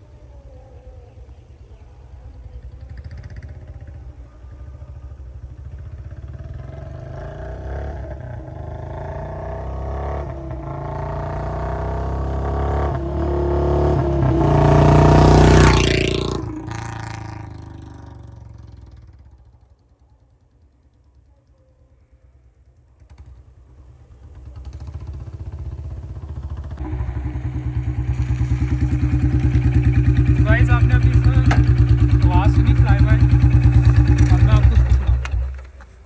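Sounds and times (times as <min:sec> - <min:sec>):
motorcycle riding past: 0:02.2 - 0:19.6, 0:23.0 - 0:36.0.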